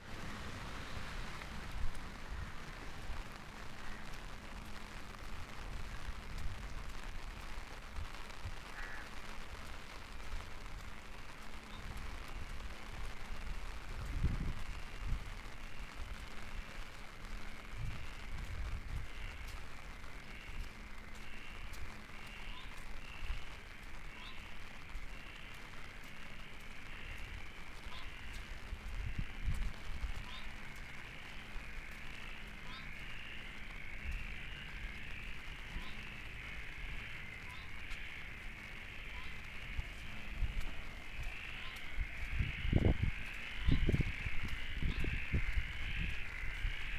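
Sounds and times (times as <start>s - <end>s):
steady hiss: 0.0s - 46.9s
steady rain falling: 0.0s - 46.9s.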